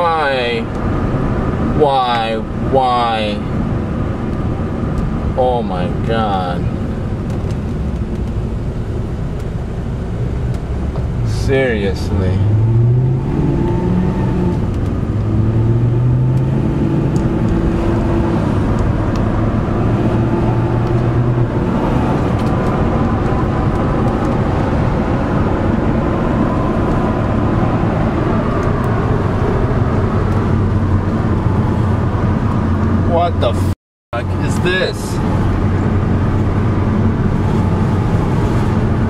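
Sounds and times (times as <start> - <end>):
car engine droning: 0.0 - 39.0
road and traffic noise: 0.0 - 39.0.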